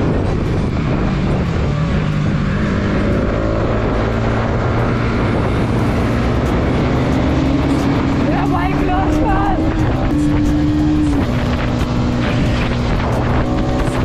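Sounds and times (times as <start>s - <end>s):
motorcycle engine running: 0.0s - 14.0s
wind noise: 0.0s - 14.0s.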